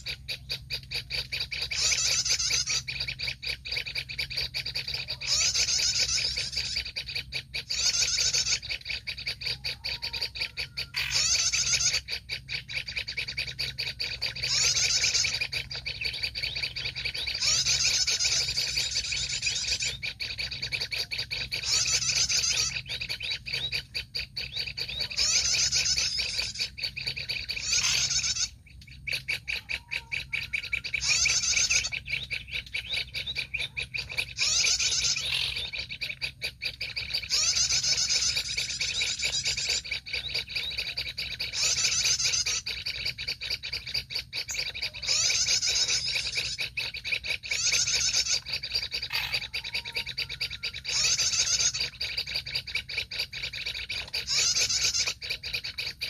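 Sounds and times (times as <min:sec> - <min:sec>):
faint rapid bird chatter: 0:00.0 - 0:56.0
warbler harsh chattering song: 0:00.0 - 0:56.0.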